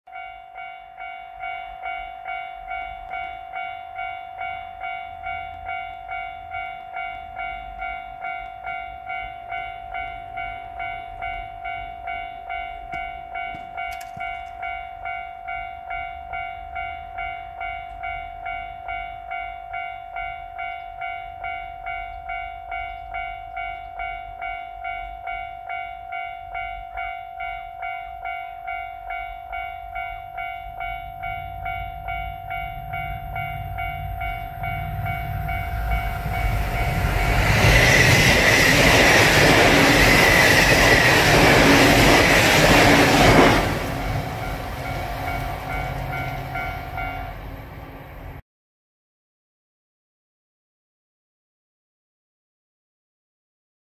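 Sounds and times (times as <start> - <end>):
level crossing warning bell: 0.1 - 48.3
electric train passing: 0.2 - 48.4.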